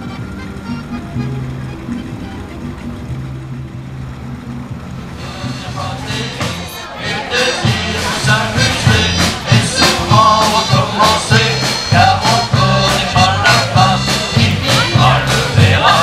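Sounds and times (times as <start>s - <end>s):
band music with drums and bass: 0.0s - 16.0s.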